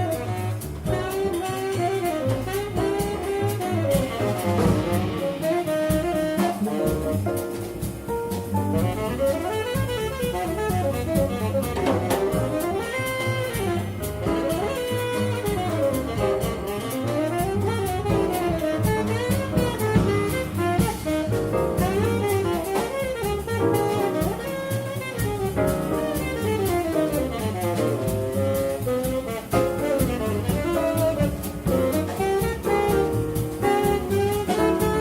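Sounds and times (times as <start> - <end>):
double bass: 0.0 - 35.0
drum kit cymbals: 0.0 - 35.0
piano: 0.0 - 35.0
saxophone playing quick lines: 0.0 - 35.0.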